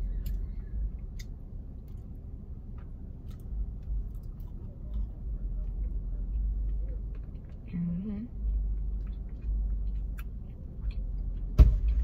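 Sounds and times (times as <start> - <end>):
crunchy food chewing: 0.0 - 12.0
low rumble: 0.0 - 12.0.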